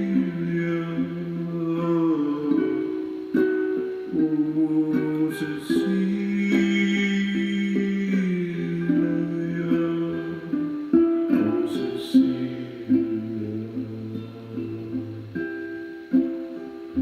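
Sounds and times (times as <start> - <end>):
ukulele strumming: 0.0 - 17.0.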